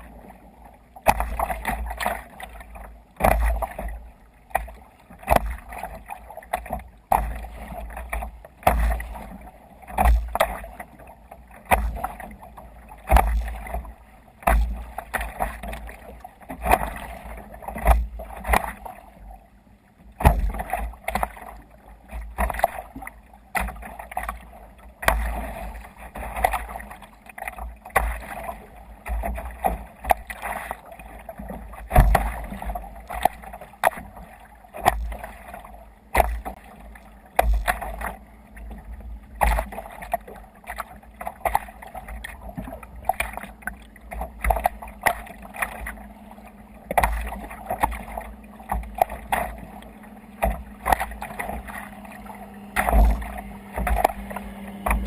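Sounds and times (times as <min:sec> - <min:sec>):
water splashing against kayak hull: 0:00.0 - 0:55.0.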